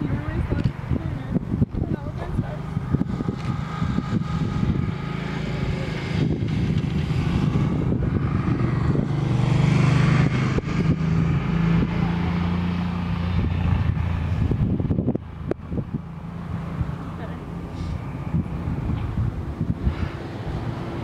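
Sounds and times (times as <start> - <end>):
engine hum: 0.0 - 21.0
wind rumble on microphone: 0.0 - 21.0.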